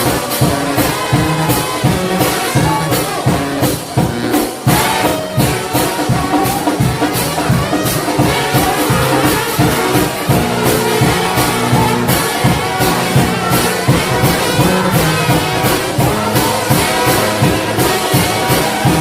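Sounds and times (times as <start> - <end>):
brass band playing gospel: 0.0 - 19.0
drums: 0.0 - 19.0.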